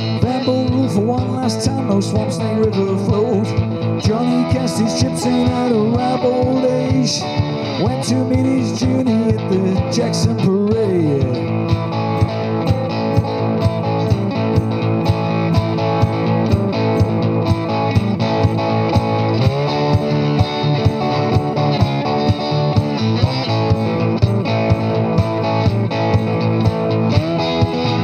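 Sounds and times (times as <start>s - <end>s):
cigar box guitar playing: 0.0s - 28.0s
steady knocking beat: 0.0s - 28.0s.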